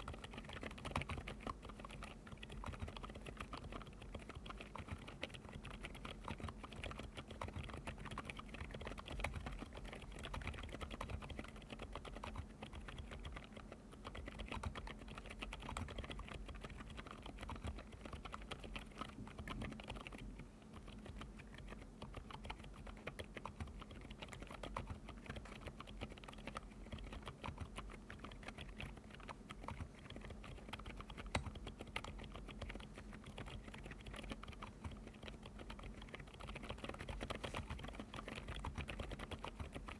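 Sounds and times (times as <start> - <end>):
soft mechanical keyboard typing: 0.0 - 39.9.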